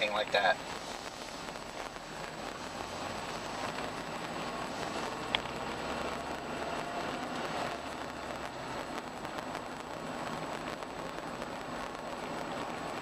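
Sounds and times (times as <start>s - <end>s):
road and engine noise in truck cab: 0.0s - 13.0s.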